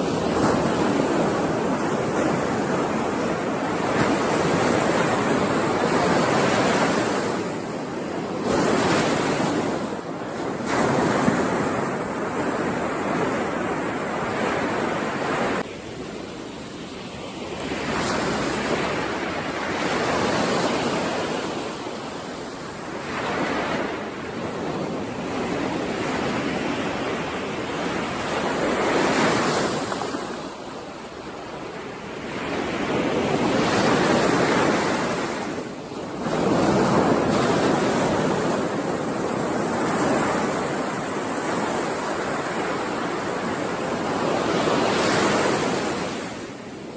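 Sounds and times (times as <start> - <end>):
ocean surf breaking on shore: 0.0 - 46.9.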